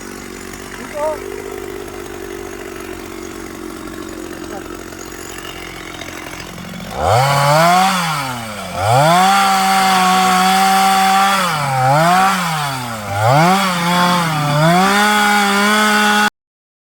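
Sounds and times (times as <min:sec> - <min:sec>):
chainsaw revving: 0:00.0 - 0:16.3.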